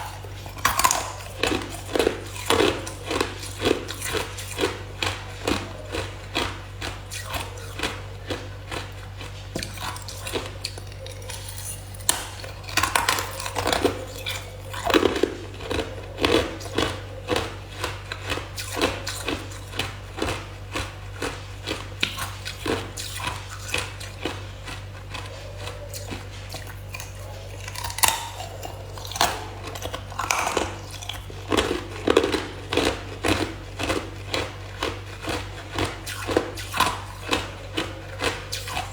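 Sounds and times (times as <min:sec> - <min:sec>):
person chewing ice: 0:00.0 - 0:38.9.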